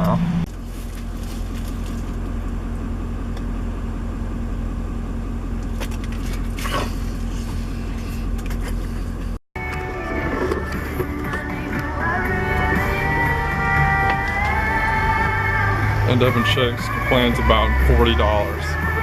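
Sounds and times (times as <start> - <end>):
road and engine rumble in cabin: 0.0 - 19.0.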